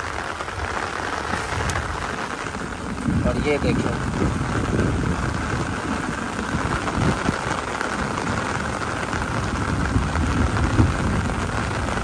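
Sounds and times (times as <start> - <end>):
heavy rain on puddles: 0.0 - 12.0.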